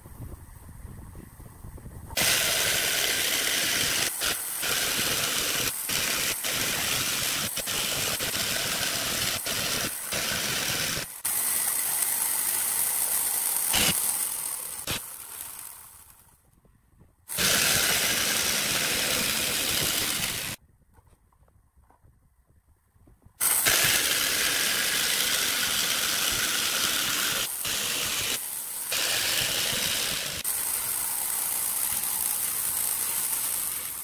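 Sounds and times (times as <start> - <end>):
electric jigsaw cutting wood: 2.2 - 16.3, 17.3 - 20.6, 23.4 - 34.0.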